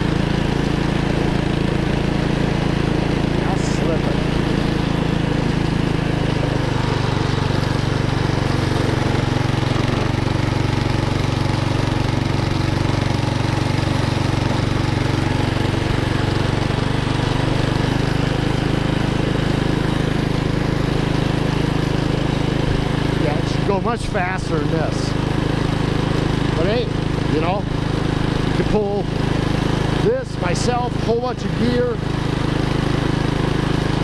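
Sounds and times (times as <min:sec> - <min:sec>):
small gas engine droning: 0:00.0 - 0:34.0.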